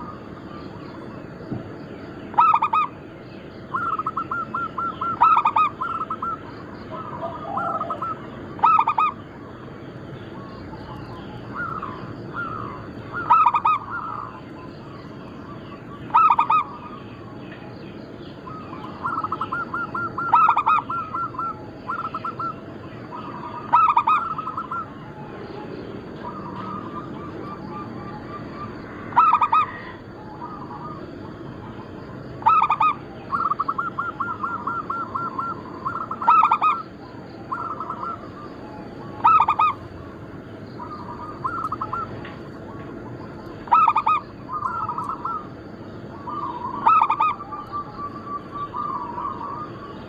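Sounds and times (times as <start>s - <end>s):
doves cooing: 0.0s - 50.0s.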